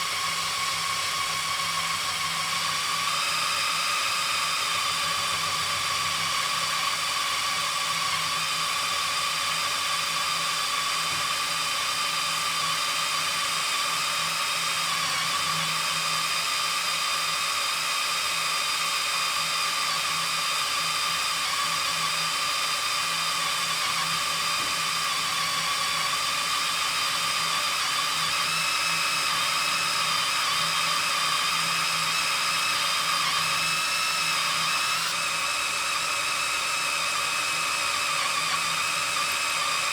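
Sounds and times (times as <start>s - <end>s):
cordless drill boring into steel: 0.0s - 39.9s.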